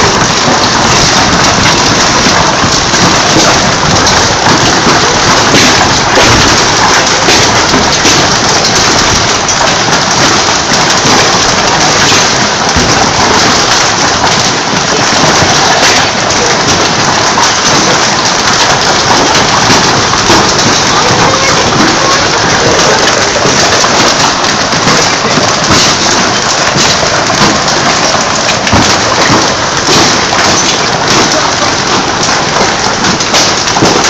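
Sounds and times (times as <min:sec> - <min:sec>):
heavy rain and hail pelting: 0:00.0 - 0:34.0.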